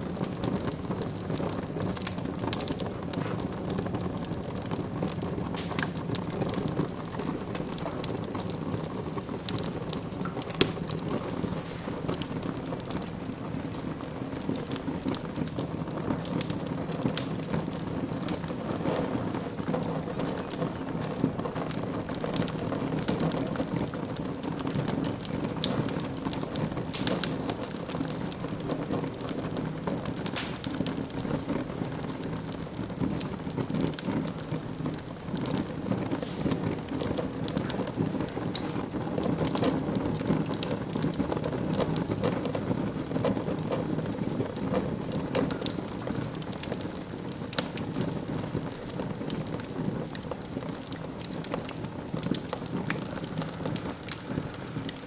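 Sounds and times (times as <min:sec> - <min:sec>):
fire crackles and pops: 0:00.0 - 0:55.0
rush of flames: 0:00.0 - 0:55.0.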